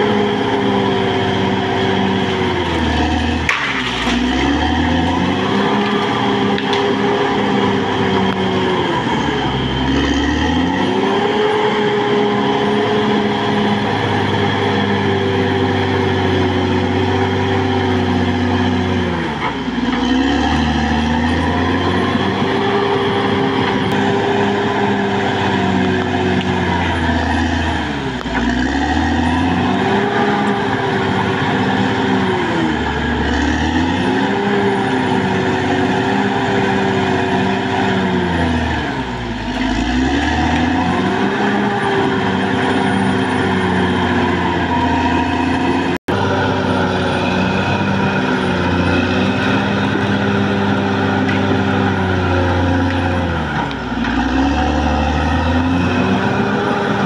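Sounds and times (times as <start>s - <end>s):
bulldozer diesel engine straining: 0.0s - 57.0s.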